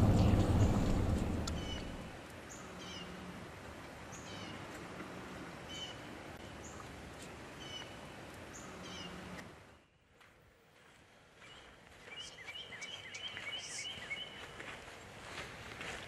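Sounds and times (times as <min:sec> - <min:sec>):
songbird singing: 0:00.0 - 0:03.3, 0:04.0 - 0:10.2, 0:11.4 - 0:14.8.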